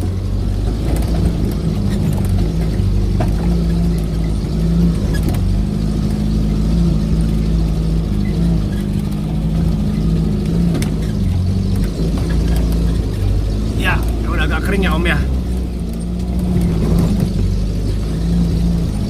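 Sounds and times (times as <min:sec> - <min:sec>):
car engine running at low revs: 0:00.0 - 0:19.0.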